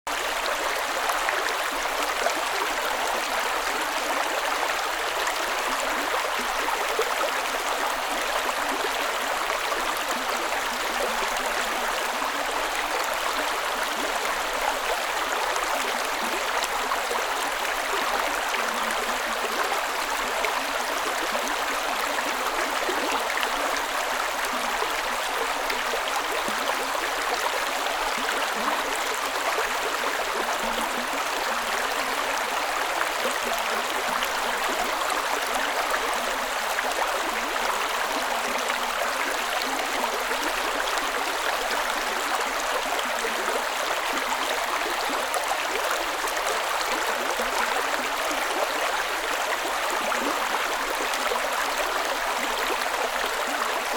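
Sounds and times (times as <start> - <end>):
creek water running over rocks: 0.1 - 53.9.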